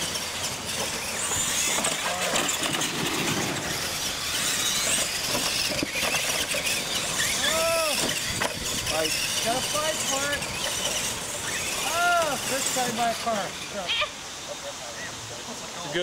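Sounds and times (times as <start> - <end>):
tyres crunching over dirt: 0.0 - 13.7
toy truck motors whining: 0.0 - 15.2.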